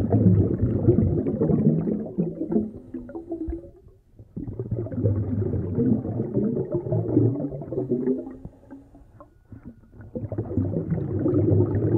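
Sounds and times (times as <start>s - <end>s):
underwater exhaled breath bubbling: 0.0s - 8.9s, 9.6s - 11.9s.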